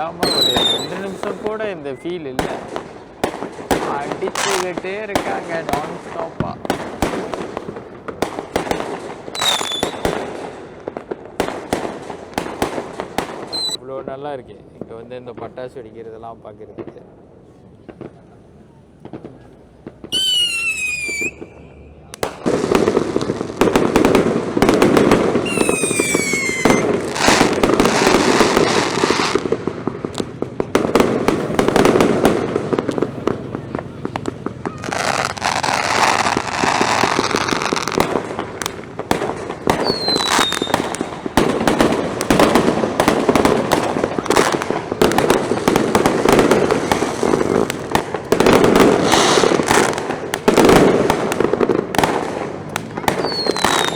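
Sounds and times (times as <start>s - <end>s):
whistling firework: 0.0s - 10.6s, 11.4s - 13.8s, 17.9s - 53.9s
fireworks crackling barrage: 0.0s - 13.9s, 16.6s - 53.9s.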